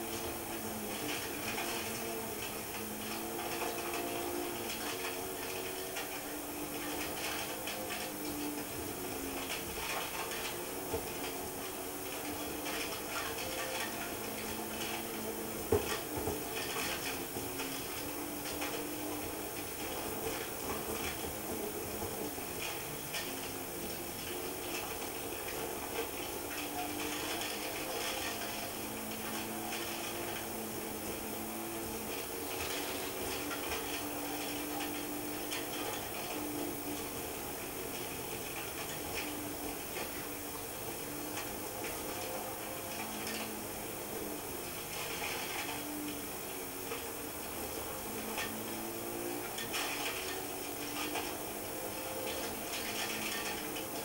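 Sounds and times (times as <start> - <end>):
rally car engine in cabin: 0.0 - 54.0
road noise: 0.0 - 54.0.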